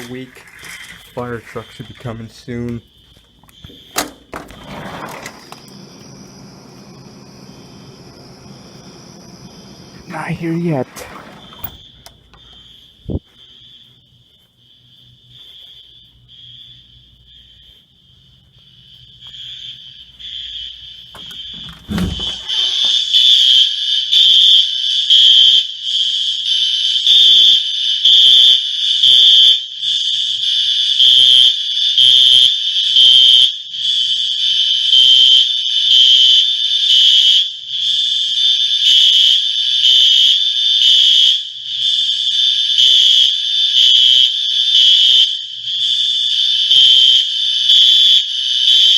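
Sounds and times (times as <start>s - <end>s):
pulsing high-pitched fire alarm: 0.0s - 48.9s.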